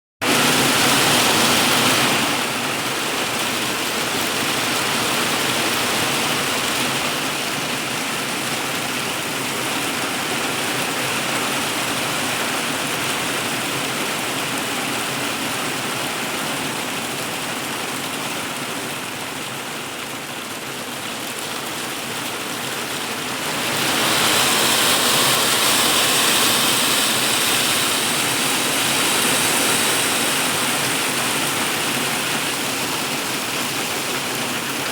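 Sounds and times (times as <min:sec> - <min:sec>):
hail drumming on a plastic roof: 0:00.2 - 0:34.9.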